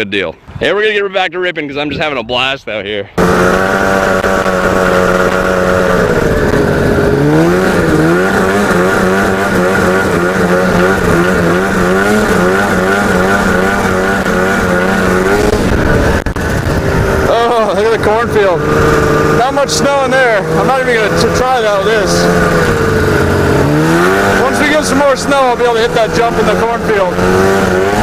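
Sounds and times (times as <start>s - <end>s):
snowmobile engine running hard: 3.2s - 28.0s.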